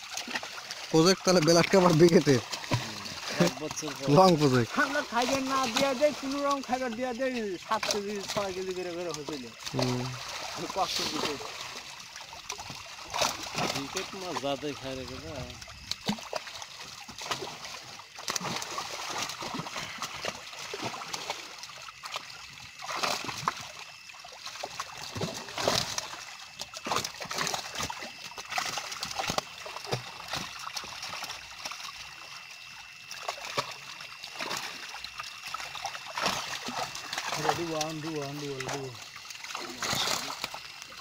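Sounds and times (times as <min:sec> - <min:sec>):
water splashing and sloshing: 0:00.0 - 0:41.0.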